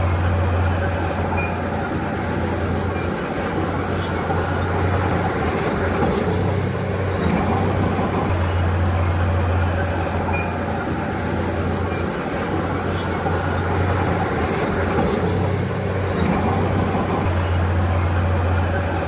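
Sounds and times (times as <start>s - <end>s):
bulldozer diesel engine under load: 0.0s - 19.0s.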